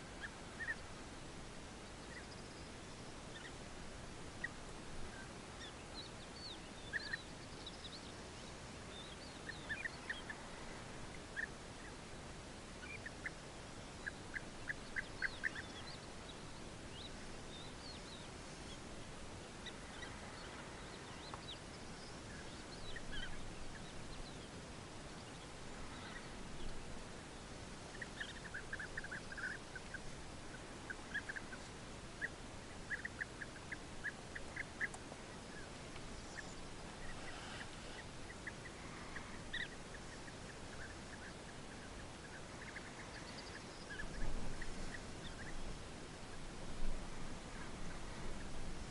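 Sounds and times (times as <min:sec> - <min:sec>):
bee-eaters calling: 0:00.0 - 0:01.0, 0:01.8 - 0:46.5.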